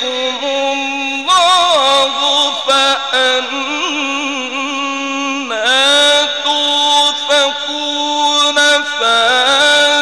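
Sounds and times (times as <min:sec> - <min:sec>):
man chanting melodically: 0:00.0 - 0:10.0.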